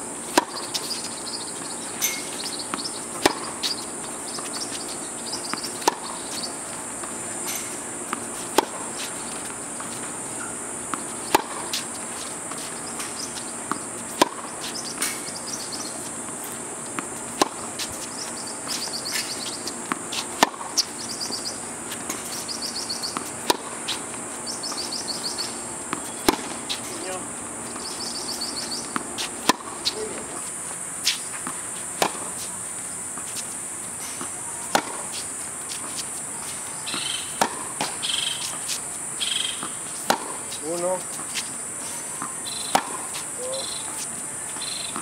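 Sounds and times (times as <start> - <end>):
high insect buzz: 0.0 - 45.0
tennis racket hitting ball: 0.3 - 30.3, 31.1 - 32.4, 34.0 - 38.8, 39.5 - 41.5, 42.1 - 45.0.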